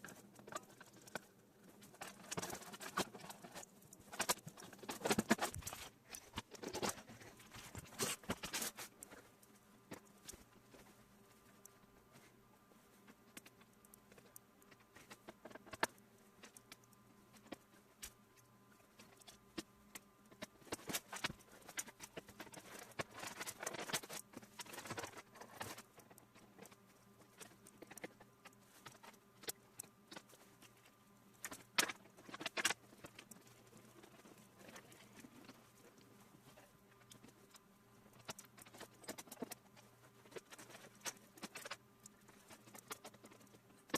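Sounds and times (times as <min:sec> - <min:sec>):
computer parts clicking and rattling: 0:00.0 - 0:11.8, 0:13.3 - 0:43.9.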